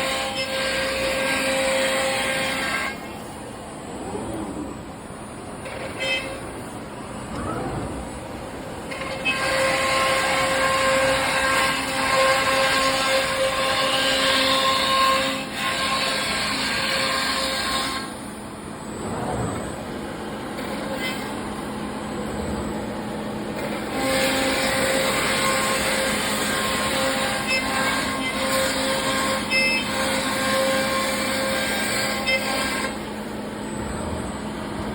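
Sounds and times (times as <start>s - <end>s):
cnc router whining and cutting: 0.0s - 34.9s.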